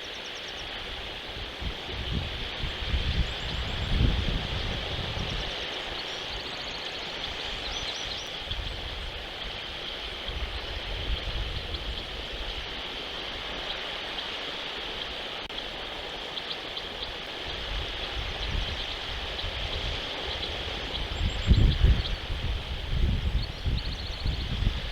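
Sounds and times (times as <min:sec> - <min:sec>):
rushing outdoor noise: 0:00.0 - 0:24.9
wind rumble on microphone: 0:00.0 - 0:24.9.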